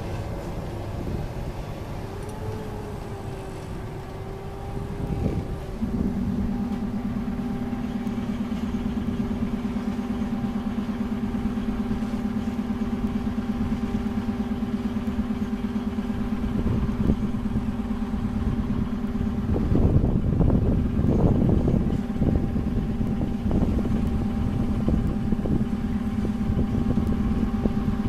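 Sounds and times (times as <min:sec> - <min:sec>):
low pulsing drone: 0:00.0 - 0:28.0
train coaches rolling past: 0:00.0 - 0:28.0.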